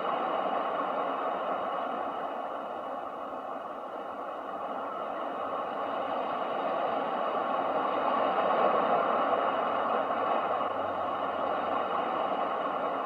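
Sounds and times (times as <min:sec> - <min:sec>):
ocean waves rushing: 0:00.0 - 0:13.0.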